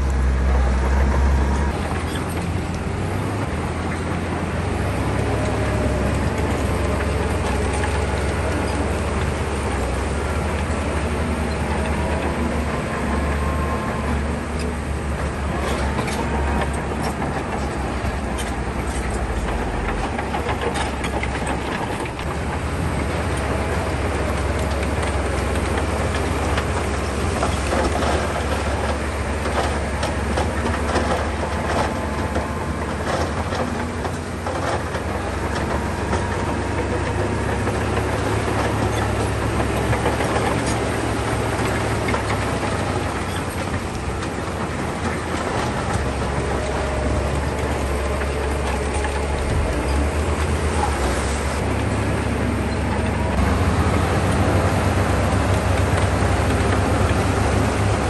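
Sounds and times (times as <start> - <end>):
deep diesel engine: 0.0 - 58.0
steel tracks clattering on stone: 1.6 - 58.0.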